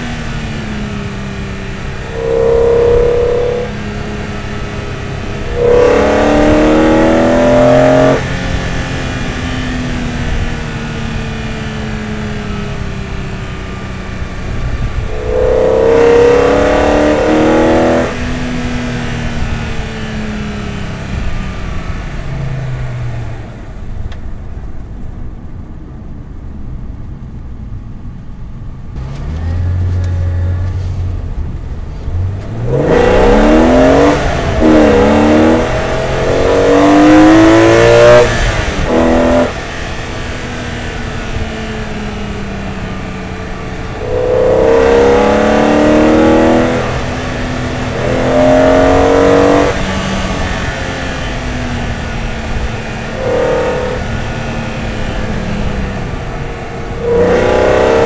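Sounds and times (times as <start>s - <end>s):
car engine revving: 0.0s - 12.9s, 13.5s - 21.8s, 32.0s - 58.0s.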